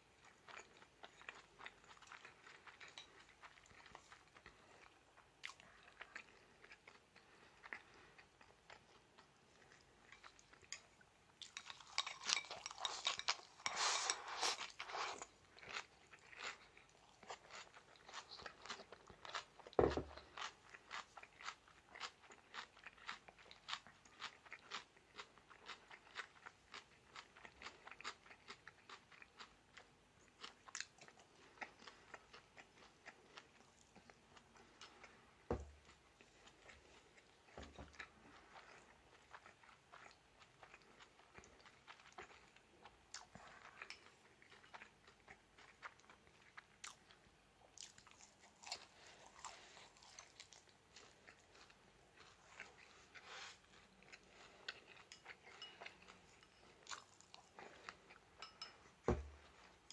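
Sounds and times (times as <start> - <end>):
chewing crunchy fried chicken: 0.0 - 59.9.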